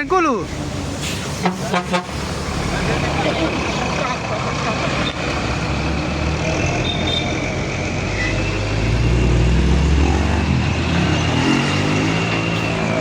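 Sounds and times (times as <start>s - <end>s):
heavy truck engine running: 0.0s - 13.0s.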